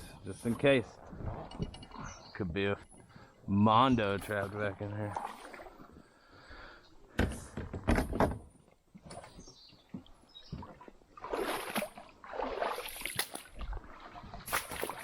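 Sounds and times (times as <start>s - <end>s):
water splashing around kayak: 0.0s - 7.6s, 8.4s - 15.0s.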